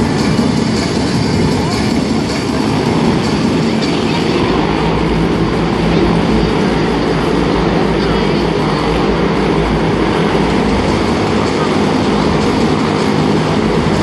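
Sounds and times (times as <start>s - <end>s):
motorcycle engines running loudly: 0.0s - 14.0s.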